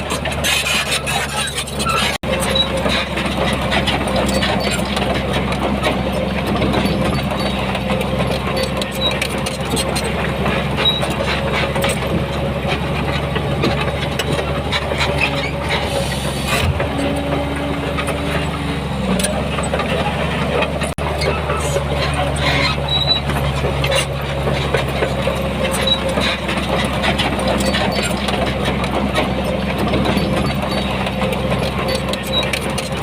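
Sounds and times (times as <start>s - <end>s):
diesel machinery engine hum: 0.0s - 33.0s.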